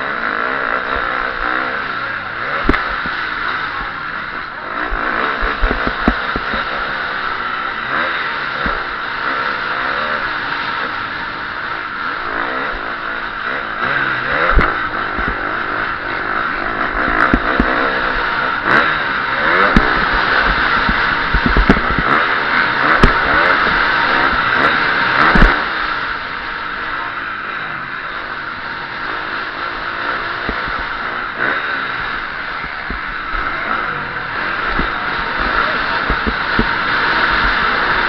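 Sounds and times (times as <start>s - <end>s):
motocross engine revving: 0.0s - 38.0s.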